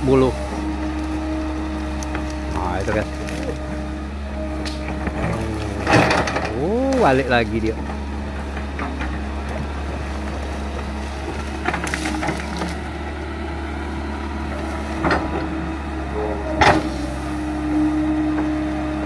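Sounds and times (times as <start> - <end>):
bamboo crackling and snapping: 0.0 - 15.5
excavator diesel engine running: 0.0 - 19.0.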